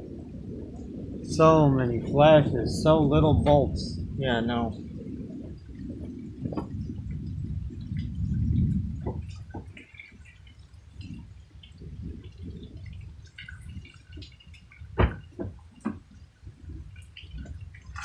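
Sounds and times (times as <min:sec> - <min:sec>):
low rumble: 0:00.0 - 0:15.6
rain dripping and pattering: 0:00.0 - 0:18.0.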